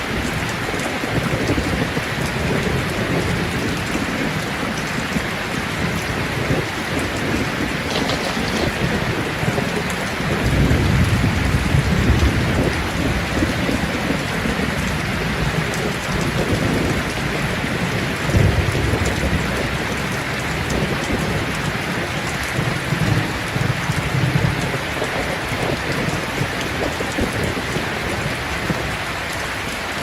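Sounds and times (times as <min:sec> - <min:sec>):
thunder rumbling: 0:00.0 - 0:29.0
heavy rain: 0:00.0 - 0:30.0.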